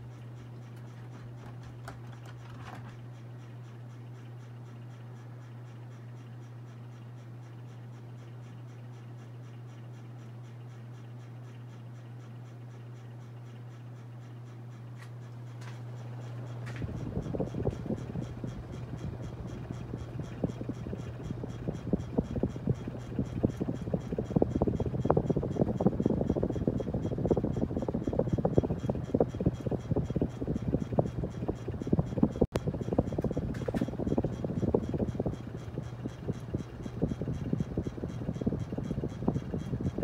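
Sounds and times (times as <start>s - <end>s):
ceiling fan motor hum: 0.0s - 40.0s.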